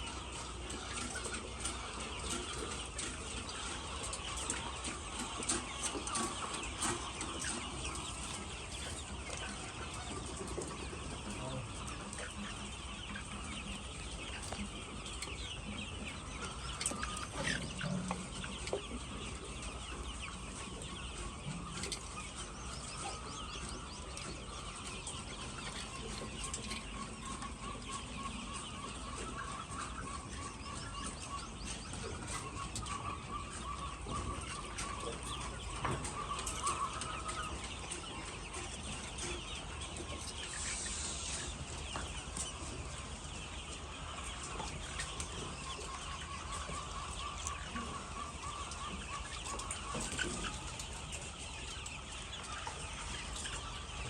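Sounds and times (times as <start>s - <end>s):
drawn-out hen calls: 0.0s - 54.0s
hens clucking: 0.0s - 54.0s.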